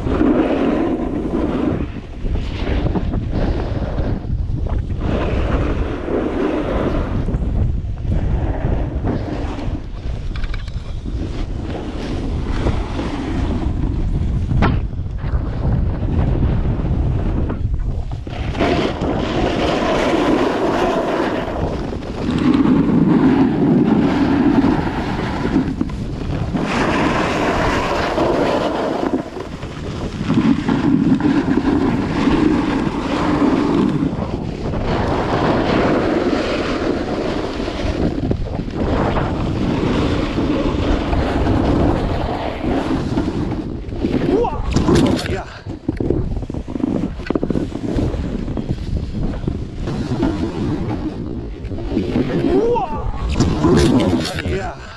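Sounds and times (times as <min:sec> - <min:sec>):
ski edges scraping over snow: 0:00.0 - 0:54.9
wind buffeting microphone: 0:00.0 - 0:54.9.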